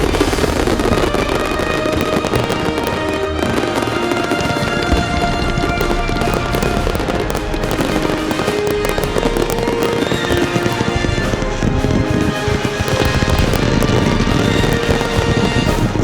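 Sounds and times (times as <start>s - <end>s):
background music: 0.0s - 16.0s
fireworks bursting and crackling: 0.0s - 16.0s.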